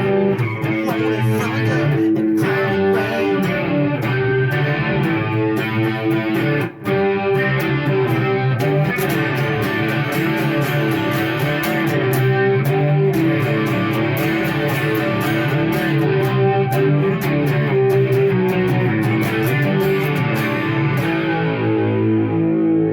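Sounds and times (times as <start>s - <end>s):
electric guitar with chorus effect: 0.0s - 22.9s.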